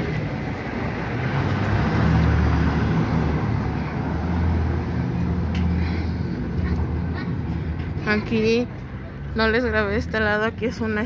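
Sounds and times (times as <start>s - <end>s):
city road traffic: 0.0s - 11.0s.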